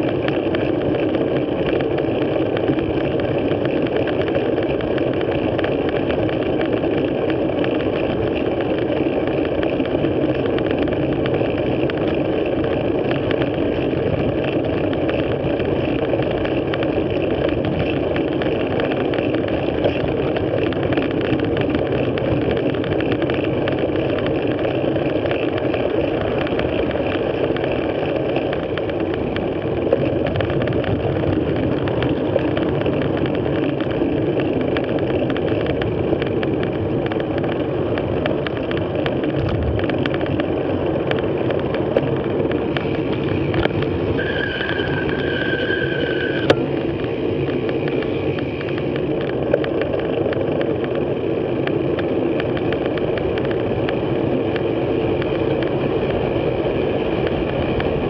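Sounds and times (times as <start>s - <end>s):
wind and bicycle tyre rumble: 0.0s - 58.0s.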